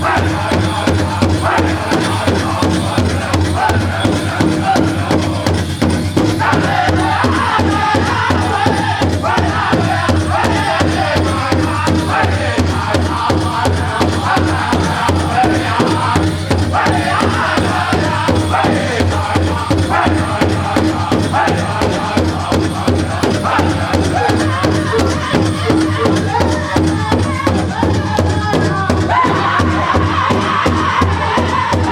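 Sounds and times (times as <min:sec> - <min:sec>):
big drum beat: 0:00.0 - 0:31.9
chorus of chanted voices: 0:00.0 - 0:31.9.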